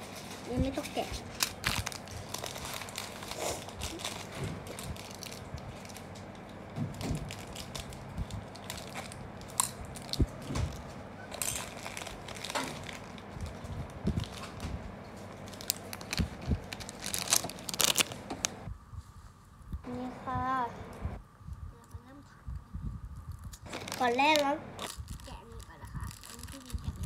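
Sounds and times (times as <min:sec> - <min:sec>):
plastic packaging crinkling: 0:00.0 - 0:18.6, 0:23.3 - 0:27.0.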